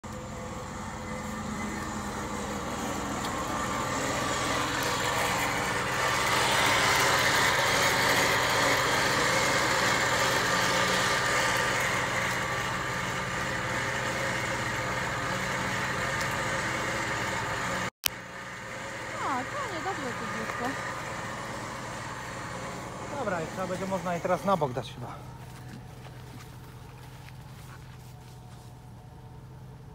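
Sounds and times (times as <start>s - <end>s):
electric winch winding rope: 0.0s - 28.3s
car engine idling: 0.0s - 29.9s.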